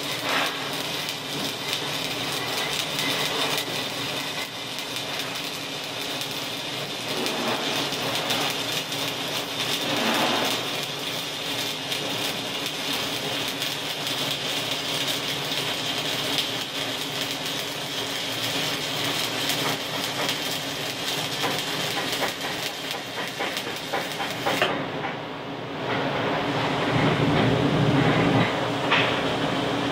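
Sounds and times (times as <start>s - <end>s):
welding arc crackling: 0.0s - 25.1s.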